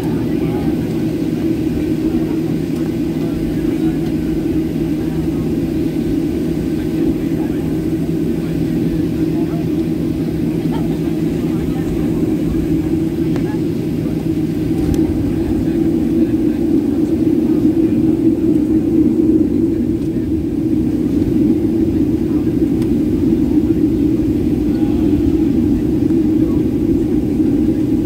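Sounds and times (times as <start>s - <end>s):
jet engines droning in cabin: 0.0s - 28.0s.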